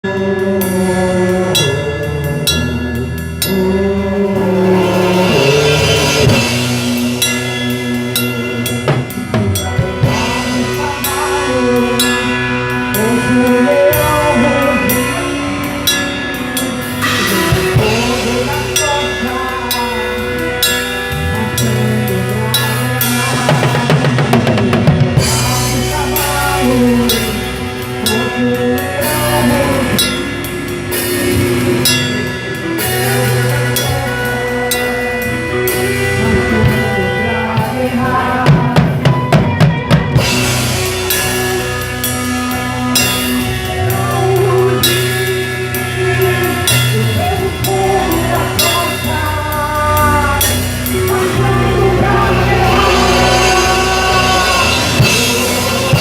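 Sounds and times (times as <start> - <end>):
backing instruments: 0.0 - 56.0
drum kit playing: 0.0 - 56.0
person singing: 0.0 - 56.0.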